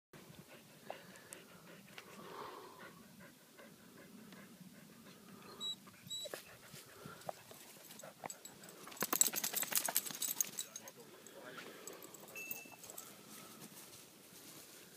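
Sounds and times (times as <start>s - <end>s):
dog panting: 0.2s - 12.3s.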